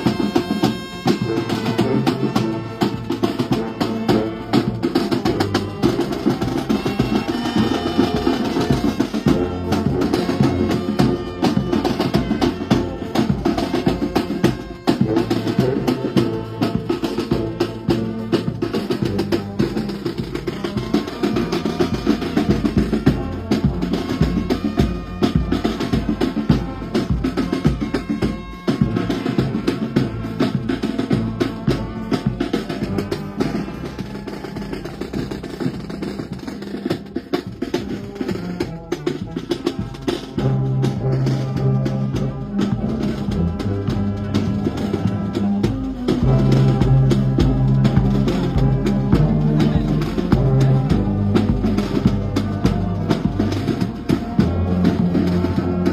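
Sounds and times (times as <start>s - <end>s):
horns playing melody: 0.0s - 55.9s
snare and bass drums: 0.0s - 55.9s.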